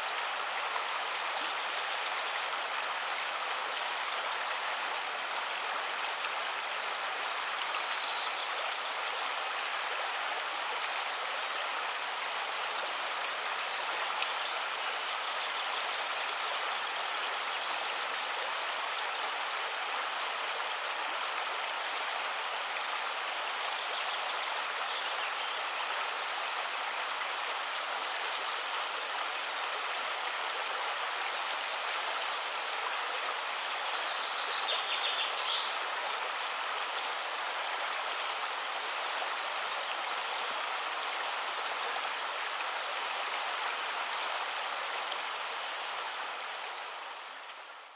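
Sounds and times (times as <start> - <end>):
river water running: 0.0 - 47.9.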